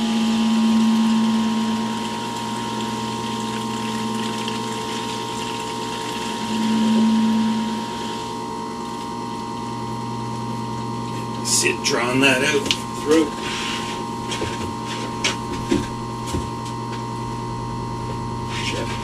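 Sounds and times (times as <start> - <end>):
air conditioner mechanical hum: 0.0 - 19.0.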